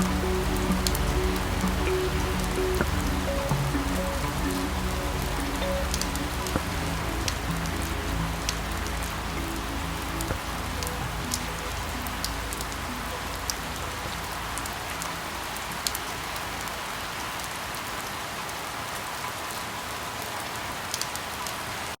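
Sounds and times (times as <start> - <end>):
rain drops ticking: 0.0 - 22.0
steady rain hissing: 0.0 - 22.0.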